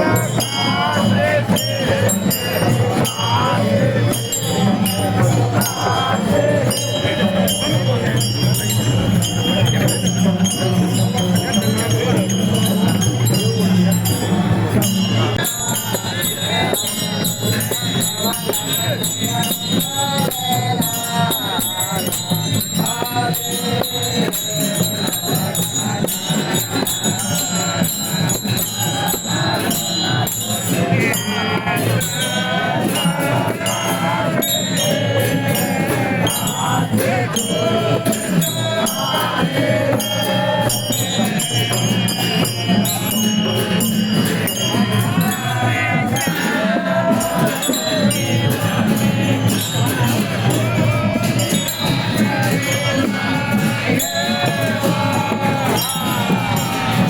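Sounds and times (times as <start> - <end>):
metal percussion jingling: 0.0 - 57.0
voices: 0.0 - 57.0.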